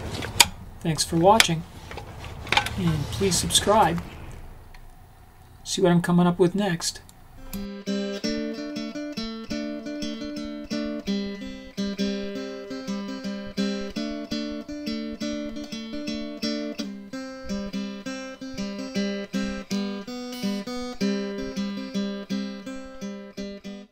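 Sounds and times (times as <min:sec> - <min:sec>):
acoustic guitar picking: 0:00.0 - 0:05.3, 0:07.2 - 0:23.9.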